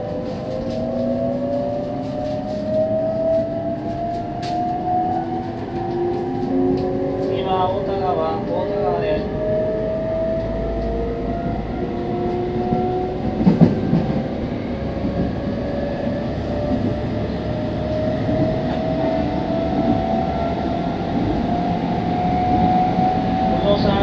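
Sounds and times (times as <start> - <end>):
train traction motor whine: 0.0 - 24.0
train wheels rumbling: 0.0 - 24.0.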